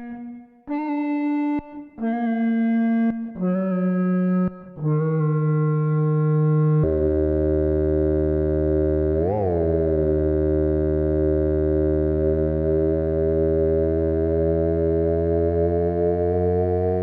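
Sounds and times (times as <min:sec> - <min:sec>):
theremin synth note: 0:00.0 - 0:17.0.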